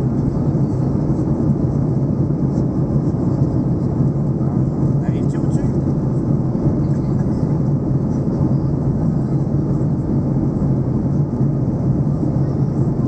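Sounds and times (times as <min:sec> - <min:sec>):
airliner cabin engine rumble: 0:00.0 - 0:13.0
constant low hum: 0:00.0 - 0:13.0.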